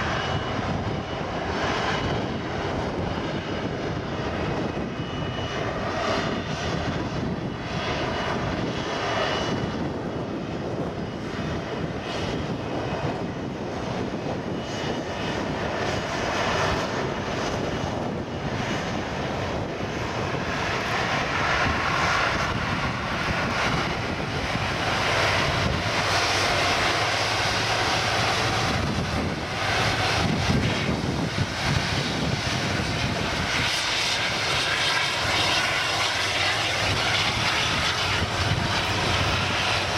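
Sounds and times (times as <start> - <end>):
jet engines taxiing: 0.0 - 39.9.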